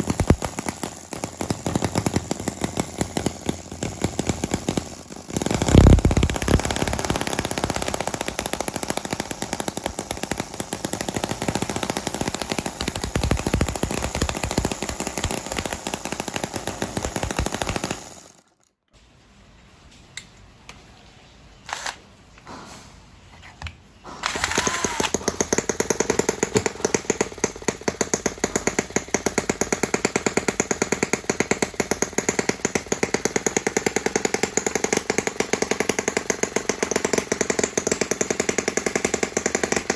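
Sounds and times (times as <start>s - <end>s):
small model engine running: 0.0s - 18.6s, 24.3s - 39.9s.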